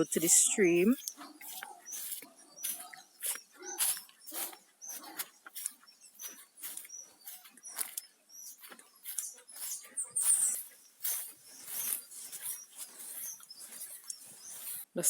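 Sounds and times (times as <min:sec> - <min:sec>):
footsteps on dirt path: 0:00.0 - 0:15.0
rustling dry vegetation: 0:00.0 - 0:15.0.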